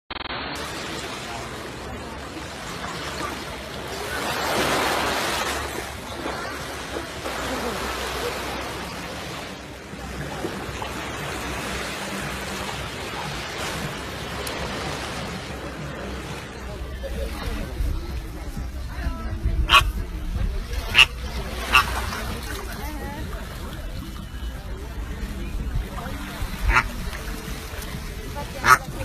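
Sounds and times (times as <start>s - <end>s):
surf washing on beach: 0.1s - 29.0s.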